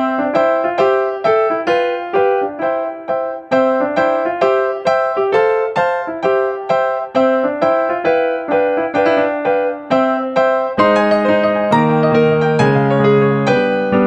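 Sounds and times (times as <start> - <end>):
light keyboard tune: 0.0 - 14.0.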